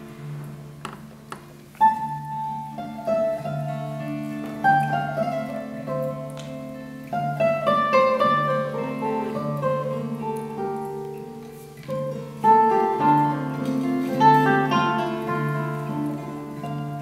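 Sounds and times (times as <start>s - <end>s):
acoustic guitar duet: 0.0s - 17.0s.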